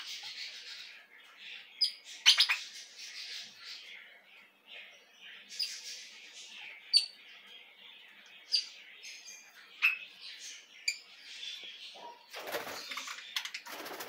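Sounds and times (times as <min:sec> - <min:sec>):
parrots chirping and chattering: 0:00.0 - 0:14.0.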